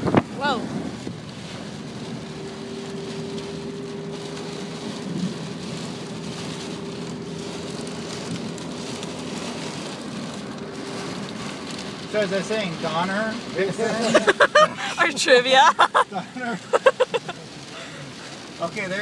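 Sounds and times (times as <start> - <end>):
heavy rain on a car: 0.0 - 19.0
road noise: 0.0 - 19.0.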